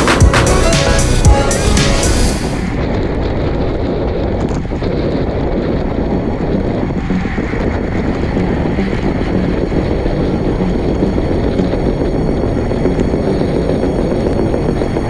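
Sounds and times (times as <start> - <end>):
wind buffeting microphone: 2.5 - 15.0.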